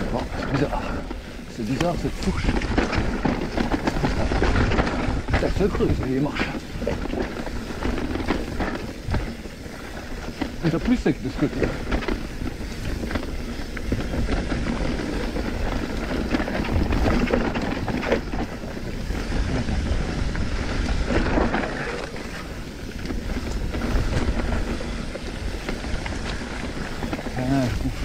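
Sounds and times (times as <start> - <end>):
bike clattering over bumps: 0.0 - 28.0
tyres rumbling on dirt: 0.0 - 28.0
wind buffeting microphone: 0.0 - 28.0.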